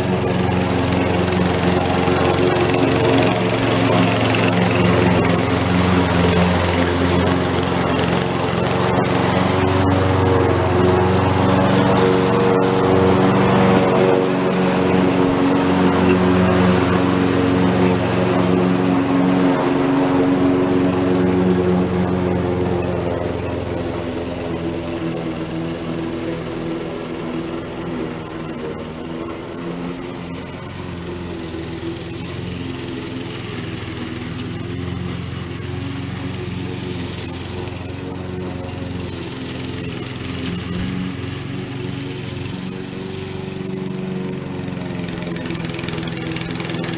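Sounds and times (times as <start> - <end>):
lawn mower engine running: 0.0 - 46.9.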